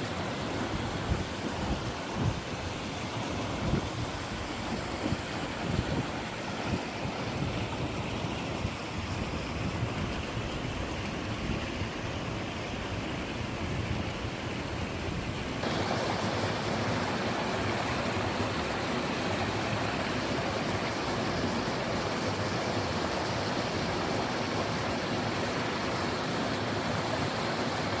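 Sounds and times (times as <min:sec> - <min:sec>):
small waterfalls splashing: 0:00.0 - 0:28.0.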